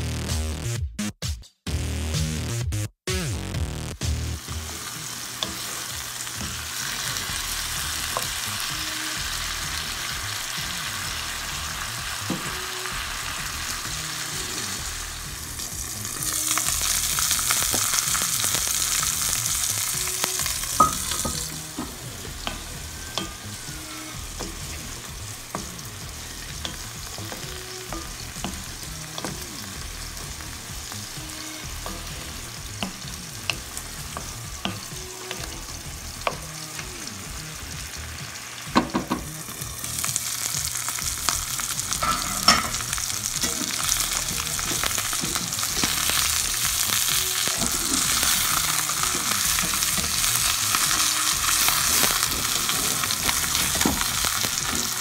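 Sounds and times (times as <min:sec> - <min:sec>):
food sizzling in hot oil: 0:04.0 - 0:55.0.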